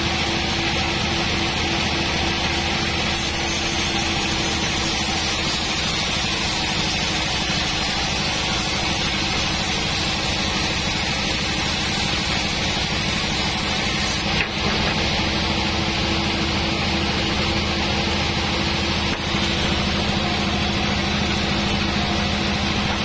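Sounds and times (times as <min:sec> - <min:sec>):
band saw cutting wood: 0:00.0 - 0:23.0.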